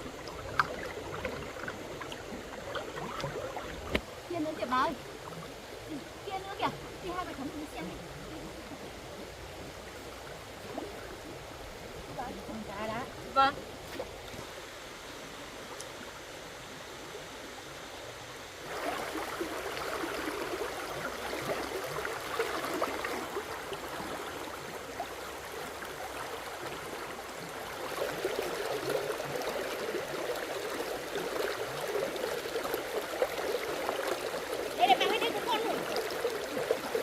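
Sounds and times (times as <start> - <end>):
rushing splashing water: 0.0 - 15.8, 18.6 - 37.0.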